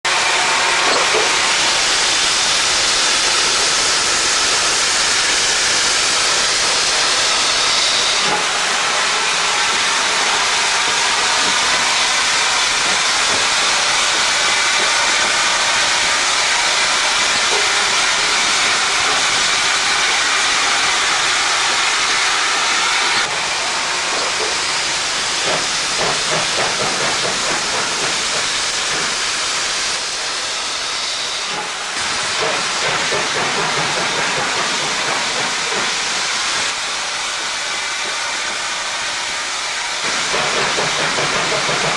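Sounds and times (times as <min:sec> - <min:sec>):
steam hiss: 0:00.1 - 0:41.9.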